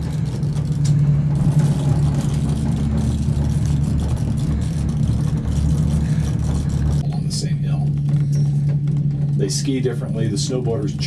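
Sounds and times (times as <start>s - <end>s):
gondola cabin hum and rumble: 0.0s - 11.0s.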